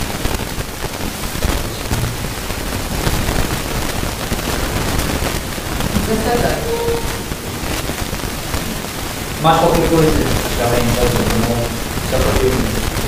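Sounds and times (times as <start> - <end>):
crackle and clicks: 0.0 - 13.0
loud steady hiss: 0.0 - 13.0.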